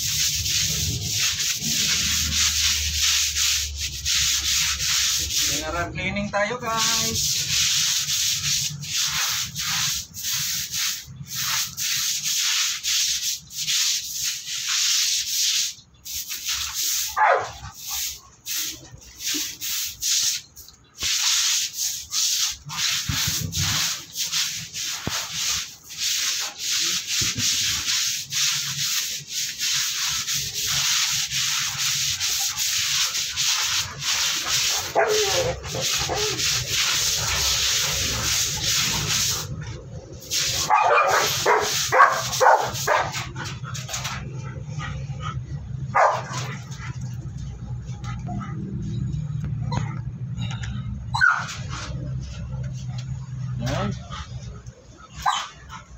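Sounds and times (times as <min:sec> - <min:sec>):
scrub brush scouring wet concrete: 0:00.0 - 0:50.0, 0:51.2 - 0:55.9.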